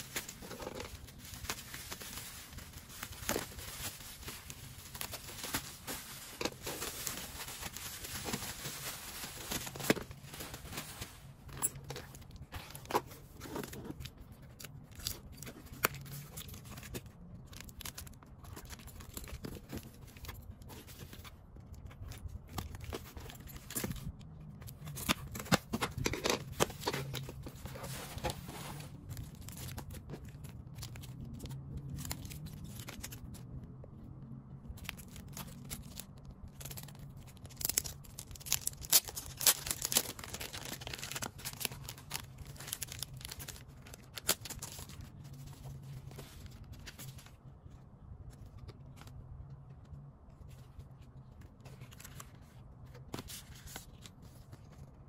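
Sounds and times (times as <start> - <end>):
packages rustling: 0.0 - 33.4, 34.8 - 47.5
plastic wrap crinkling and tearing: 0.0 - 33.4, 34.7 - 47.4.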